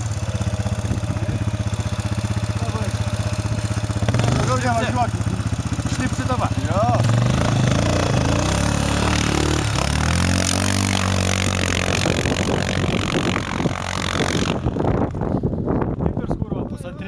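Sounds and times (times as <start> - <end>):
quad bike engine revving: 0.0 - 15.6.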